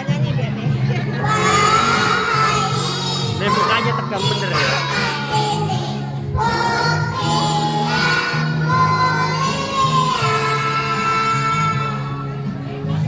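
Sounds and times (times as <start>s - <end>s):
children's choir singing: 1.0s - 13.0s.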